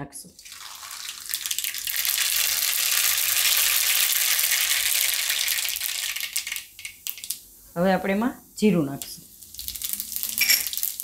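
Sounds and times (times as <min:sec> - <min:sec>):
seeds sizzling in hot oil: 0:00.4 - 0:07.6, 0:08.8 - 0:11.0.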